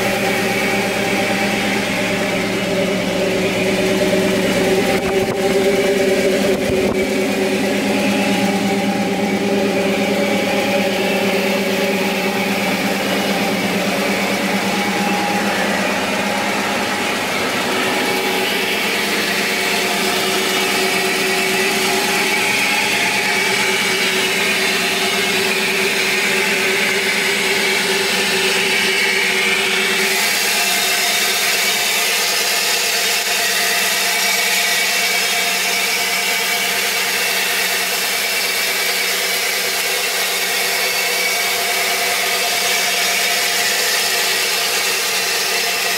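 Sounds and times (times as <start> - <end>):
truck engine droning: 0.0 - 45.9.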